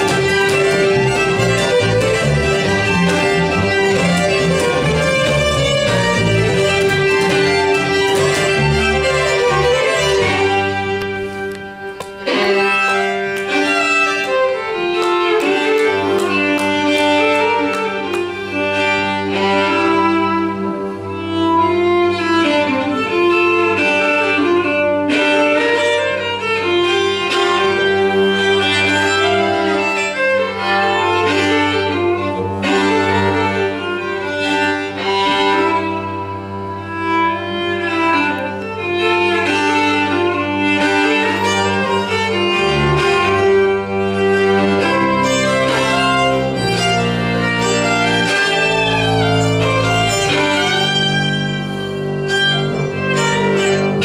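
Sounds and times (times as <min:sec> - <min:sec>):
bowed upright bass: 0:00.0 - 0:54.0
fiddles playing: 0:00.0 - 0:54.0.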